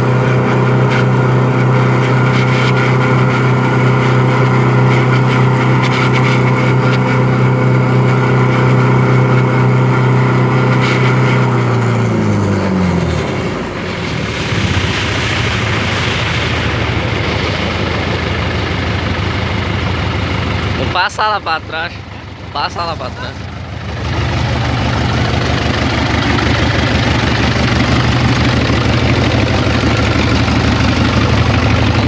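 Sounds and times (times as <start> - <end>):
diesel engine revving and idling: 0.0 - 32.0.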